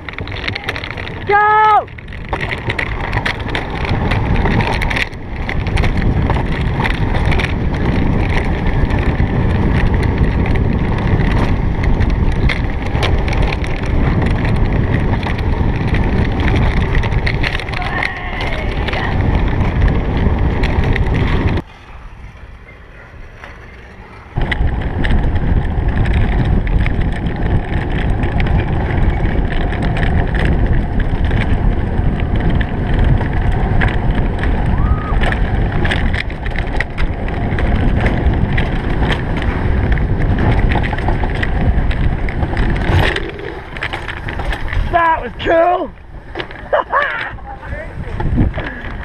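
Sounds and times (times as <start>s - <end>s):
sled wheels rumbling on rails: 0.0s - 49.0s
wind buffeting microphone: 0.0s - 49.0s.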